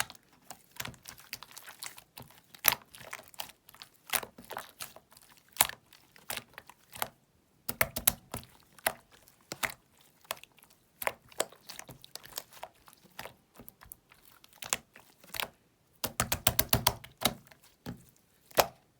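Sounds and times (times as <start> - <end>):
slime squishing by hand: 0.0 - 18.9.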